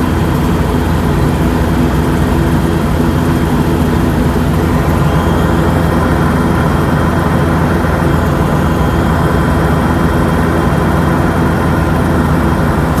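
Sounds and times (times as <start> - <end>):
combine harvester diesel engine: 0.0 - 13.0.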